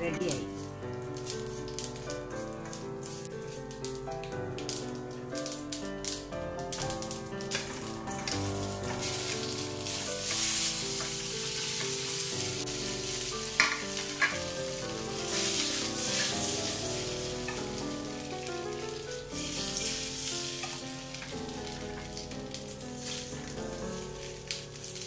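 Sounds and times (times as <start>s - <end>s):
spices sizzling in a wok: 0.0s - 25.0s.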